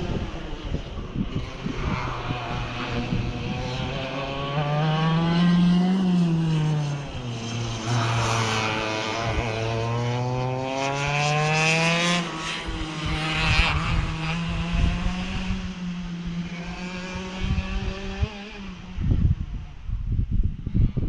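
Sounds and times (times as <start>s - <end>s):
go-kart engine accelerating: 0.0s - 19.0s.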